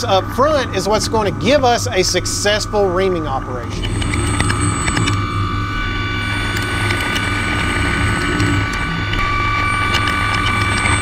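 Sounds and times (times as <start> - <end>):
low hum: 0.0 - 11.0
milling machine whine: 0.0 - 11.0.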